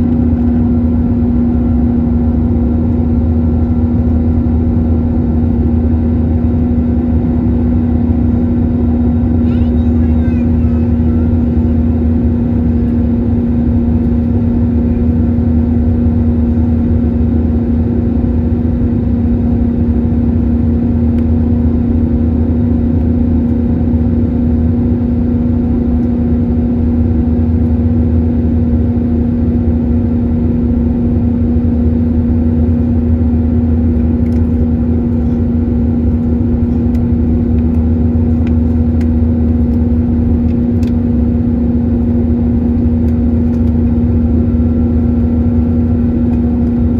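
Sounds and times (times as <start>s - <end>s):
airplane cabin engine drone: 0.0s - 46.9s
steady hum: 0.0s - 46.9s.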